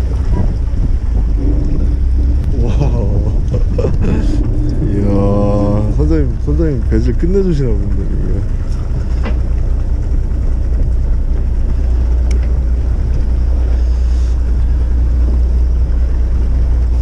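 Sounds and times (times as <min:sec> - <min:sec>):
boat engine droning: 0:00.0 - 0:17.0
wind and water rushing: 0:00.0 - 0:17.0.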